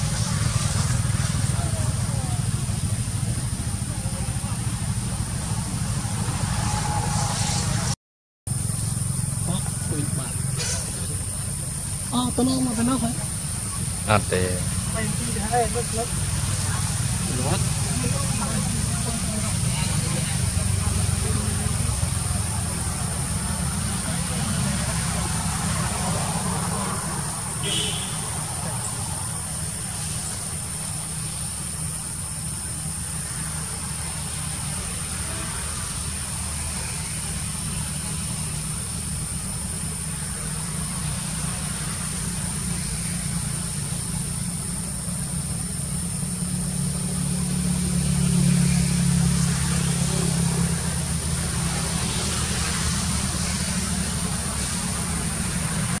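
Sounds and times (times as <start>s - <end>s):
high-pitched whine: 0.0s - 56.0s
low engine hum: 0.0s - 56.0s.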